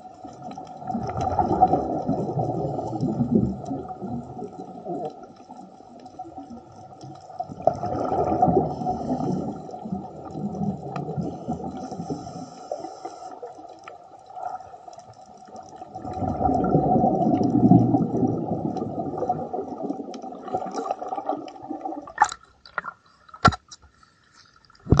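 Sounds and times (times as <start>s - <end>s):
underwater regulator bubbling: 0.0s - 13.5s, 15.5s - 23.6s.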